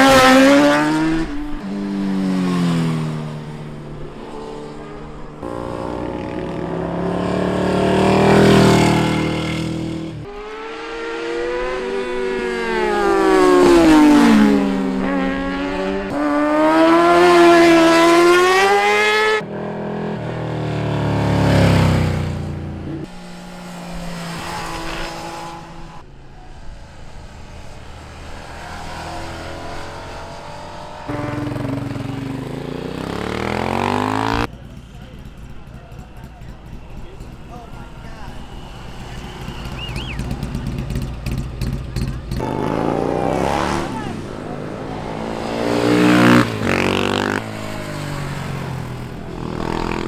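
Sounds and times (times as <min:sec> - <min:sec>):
motorcycles revving past: 0:00.0 - 0:50.0.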